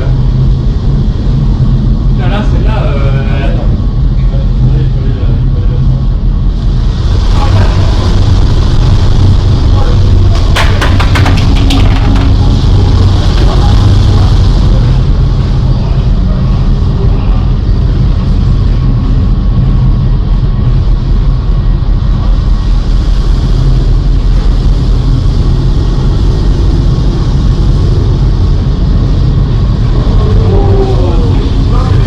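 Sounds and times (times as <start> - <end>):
constant low hum: 0.0 - 32.0
sea noise: 0.0 - 32.0.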